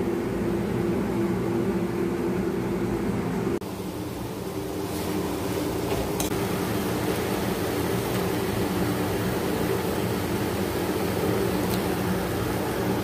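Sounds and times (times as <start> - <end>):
mechanical hum with hiss: 0.0 - 13.0.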